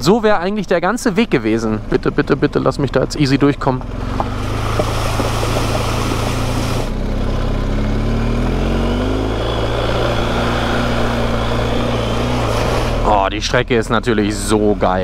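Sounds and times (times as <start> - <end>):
motorcycle engine running: 1.4 - 15.0.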